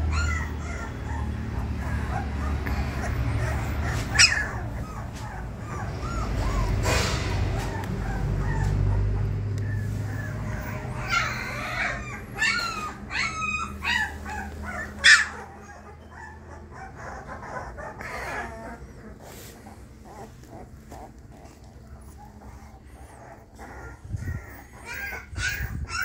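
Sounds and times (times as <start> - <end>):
puppies whimpering and yelping: 0.0 - 26.0.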